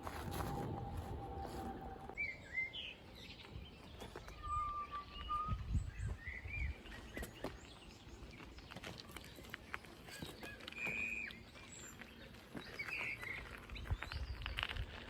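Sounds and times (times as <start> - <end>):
birds chirping: 1.2 - 14.8.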